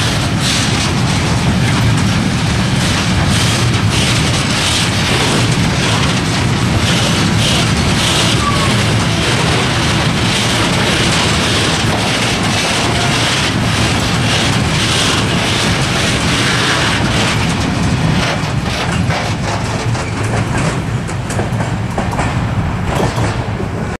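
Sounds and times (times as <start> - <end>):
freight train wheels rumbling on rail: 0.0 - 24.0
sharp train wheel clicks: 2.8 - 23.6.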